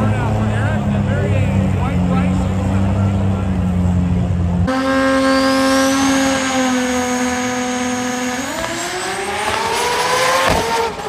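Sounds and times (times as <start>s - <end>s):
drag car engine accelerating: 0.0s - 11.0s.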